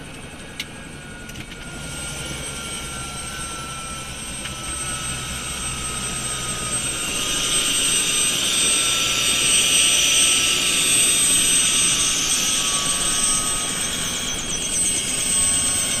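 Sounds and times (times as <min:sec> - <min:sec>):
helicopter engine whine: 0:00.0 - 0:16.0
helicopter rotor wash: 0:00.0 - 0:16.0.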